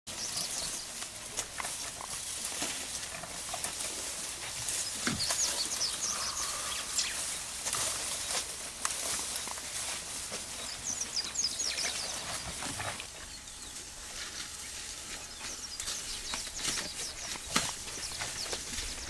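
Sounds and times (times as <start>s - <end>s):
birds chirping: 0.1s - 2.4s, 4.6s - 19.0s
dry grass rustling and snapping: 0.1s - 19.0s.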